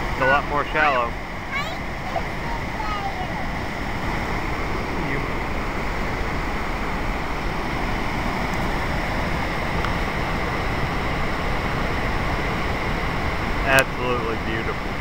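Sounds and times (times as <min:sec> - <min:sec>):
waterfall rushing over rocks: 0:00.0 - 0:15.0
wind rumbling on microphone: 0:00.0 - 0:15.0.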